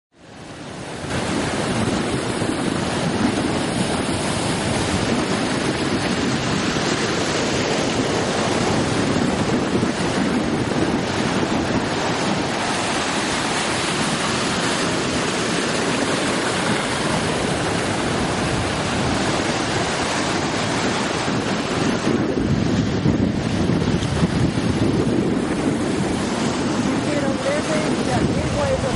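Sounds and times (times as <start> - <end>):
wind rushing over microphone: 0.1 - 28.9
surf breaking against rocks: 0.2 - 28.9.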